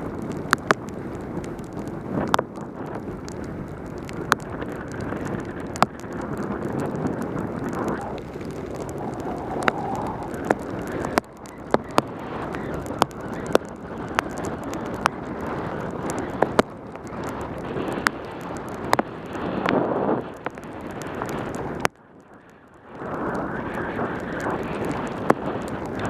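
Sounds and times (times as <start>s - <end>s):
pouring rain: 0.0s - 26.0s
sharp ticks: 0.0s - 26.0s
tyre noise on wet road: 0.0s - 26.0s
wind rushing over microphone: 0.0s - 26.0s.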